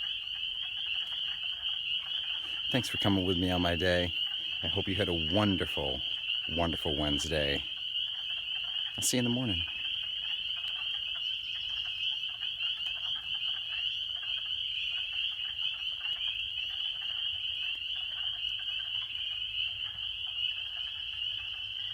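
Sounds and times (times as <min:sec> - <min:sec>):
spring peepers chorus: 0:00.0 - 0:21.9
wood frogs chuckling: 0:00.0 - 0:21.9.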